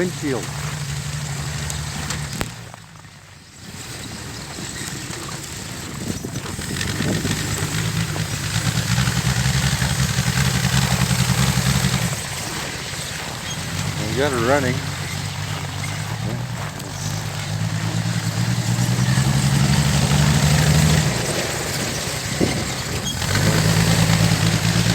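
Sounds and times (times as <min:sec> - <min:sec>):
snow vehicle engine running: 0:00.0 - 0:24.9.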